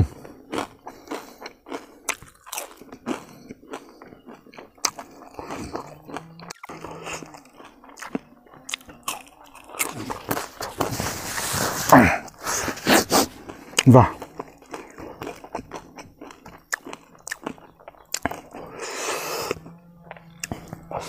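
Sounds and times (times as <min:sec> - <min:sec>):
person chewing crispy food: 0:00.0 - 0:21.0.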